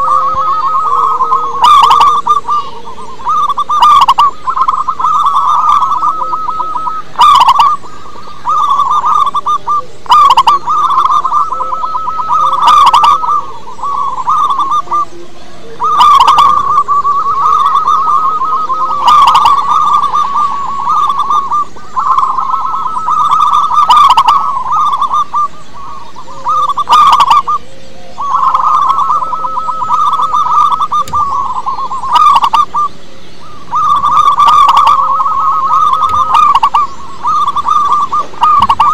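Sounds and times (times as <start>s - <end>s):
doves cooing trill: 0.0s - 38.9s
harsh bird call notes: 0.0s - 38.9s.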